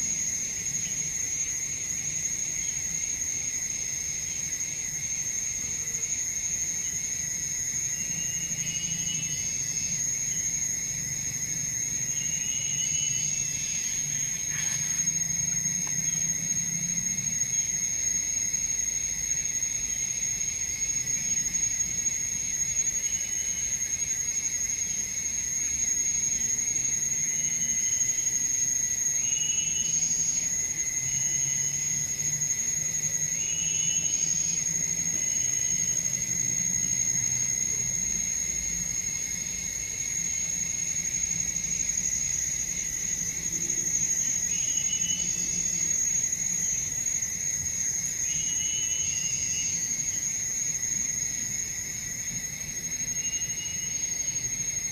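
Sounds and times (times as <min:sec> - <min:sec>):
high-pitched insect drone: 0:00.0 - 0:54.9.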